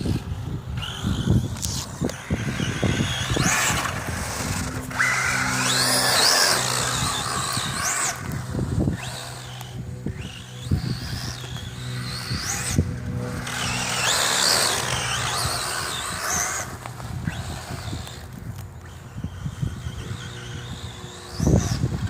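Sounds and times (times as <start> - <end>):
rc truck motors whining: 0.0 - 22.0
steady low hum: 0.0 - 22.0
trucks knocking and scraping ground: 0.0 - 22.0.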